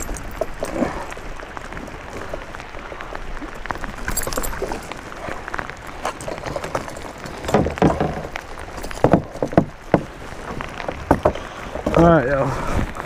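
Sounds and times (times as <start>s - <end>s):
heavy rain pattering on water: 0.0s - 13.0s.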